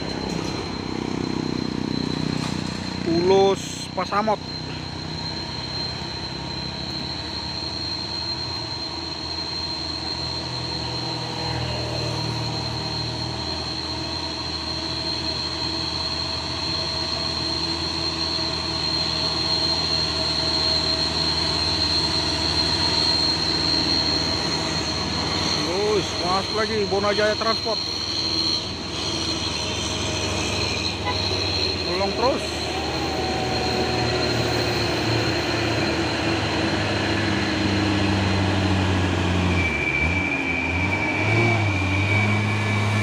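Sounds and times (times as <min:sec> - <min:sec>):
high whine: 0:00.0 - 0:43.0
truck diesel engine labouring: 0:00.0 - 0:43.0.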